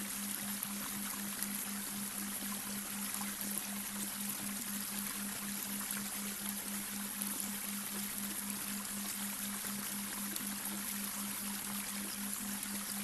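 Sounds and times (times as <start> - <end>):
brook water trickling: 0.0 - 13.0.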